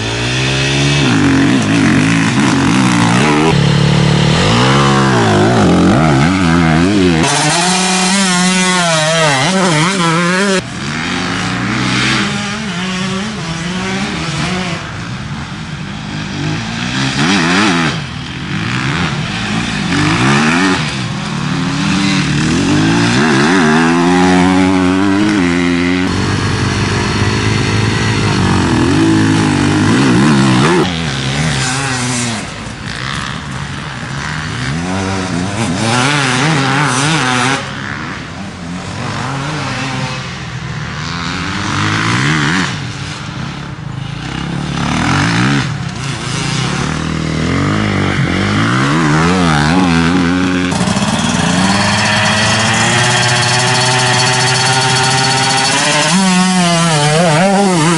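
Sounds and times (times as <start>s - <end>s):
motorcycle engines revving: 0.0s - 57.9s.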